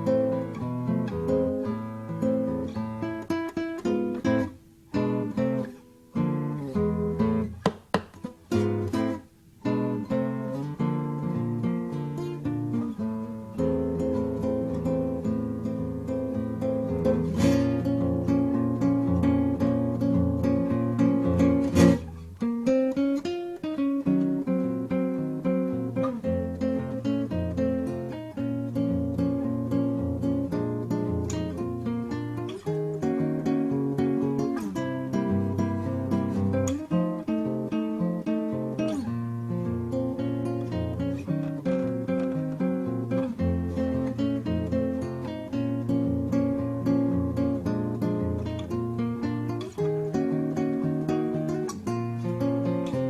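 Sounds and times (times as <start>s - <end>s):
acoustic guitar plucked and strummed: 0.0s - 53.0s.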